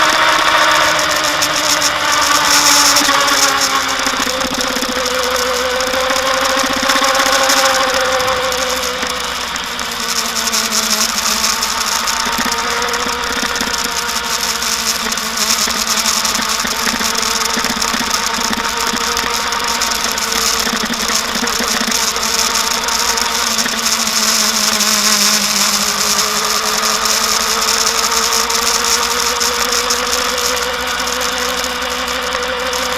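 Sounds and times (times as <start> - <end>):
constant hiss: 0.0 - 32.9
motorcycle engine running: 0.0 - 32.9.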